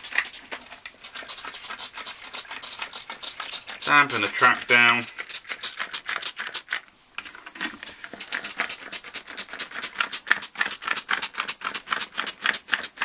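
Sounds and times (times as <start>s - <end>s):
spray bottle squirting: 0.0s - 6.8s, 8.2s - 13.0s.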